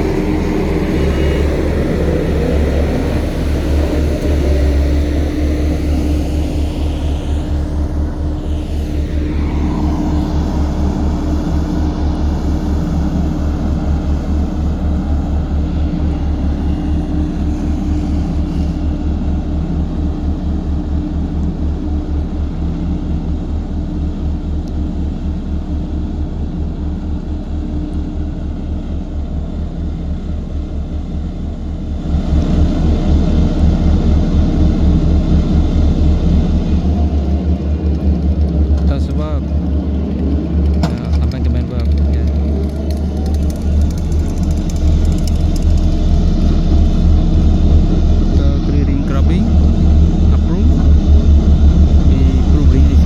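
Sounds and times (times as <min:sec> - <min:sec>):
diesel machinery pulsing: 0:00.0 - 0:53.0.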